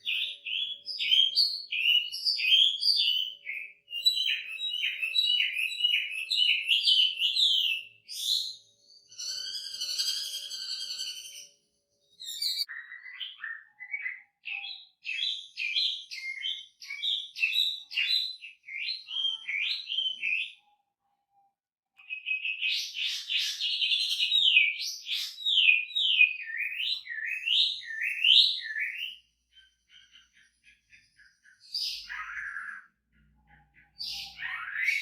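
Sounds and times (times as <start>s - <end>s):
bird singing whistled notes: 0.0s - 20.9s, 22.0s - 35.0s.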